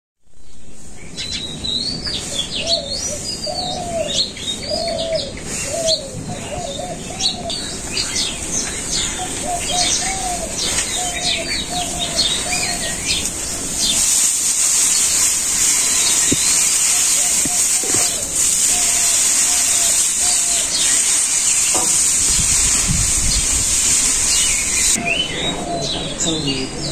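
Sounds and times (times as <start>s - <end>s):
steady high hiss: 0.3s - 26.9s
birds chirping: 0.8s - 26.9s.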